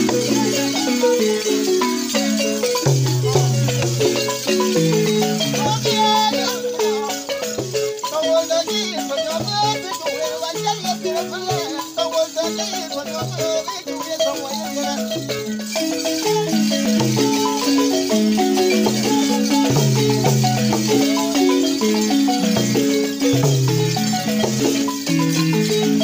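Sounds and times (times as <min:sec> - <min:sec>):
rattle shaken: 0:00.0 - 0:26.0
wooden xylophones playing: 0:00.0 - 0:26.0.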